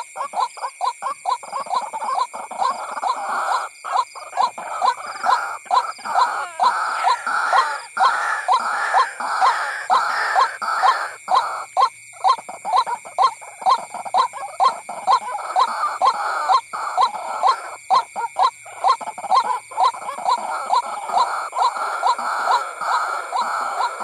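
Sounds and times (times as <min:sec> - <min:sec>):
waterhen calling harsh notes: 0:01.9 - 0:11.7, 0:13.7 - 0:24.0.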